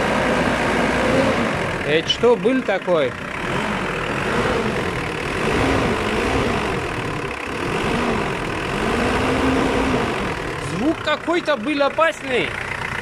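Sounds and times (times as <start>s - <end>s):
diesel engine clattering: 0.0s - 13.0s.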